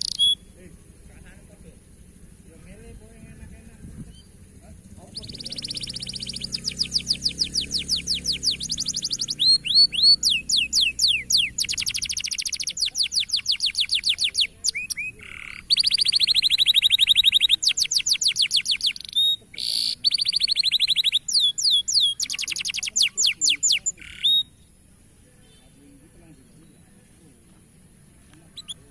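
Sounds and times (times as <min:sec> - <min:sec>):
canary song trills: 0:00.0 - 0:28.9.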